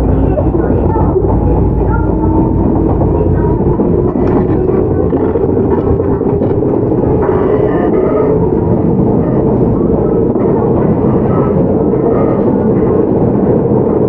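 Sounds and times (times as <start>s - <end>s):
electric train running rumble: 0.0s - 14.0s.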